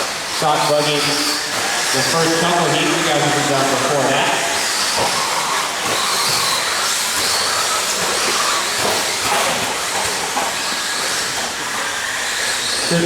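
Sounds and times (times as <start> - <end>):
faint electric motor whines: 0.0 - 13.0
rc truck tyres and motors hissing: 0.0 - 13.0.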